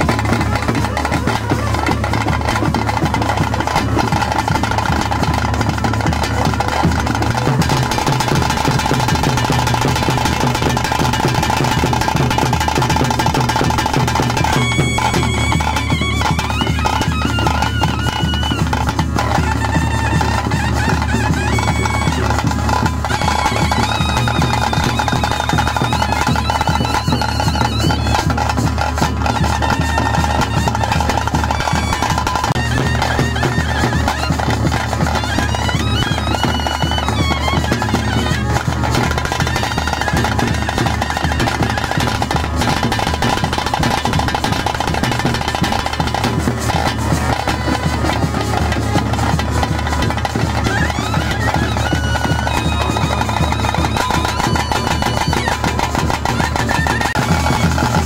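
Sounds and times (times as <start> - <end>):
dense drumming: 0.0 - 58.0
high wavering melody: 0.0 - 58.0.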